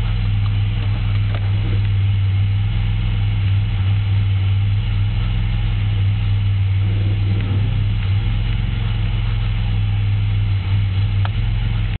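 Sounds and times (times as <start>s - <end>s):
engine running with knocking: 0.0s - 12.0s.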